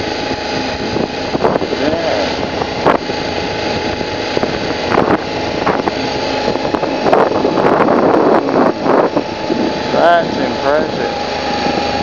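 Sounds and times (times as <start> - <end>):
motorcycle engine running: 0.0 - 12.0
wind rush on microphone: 0.0 - 12.0.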